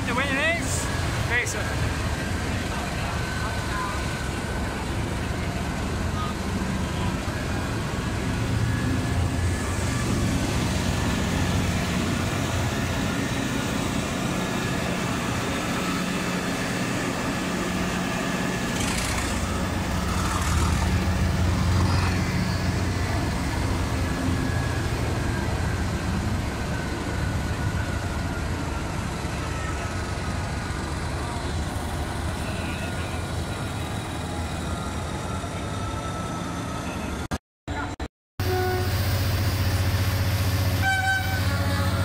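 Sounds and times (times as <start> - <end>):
diesel locomotive engine rumbling: 0.0 - 42.0.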